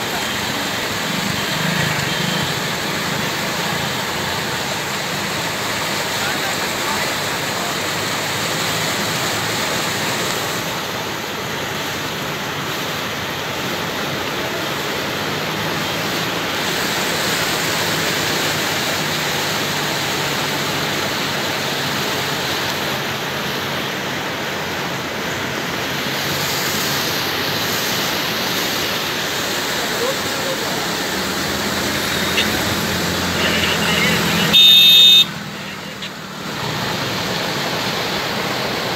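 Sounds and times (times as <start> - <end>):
floodwater rushing over road: 0.0 - 38.9.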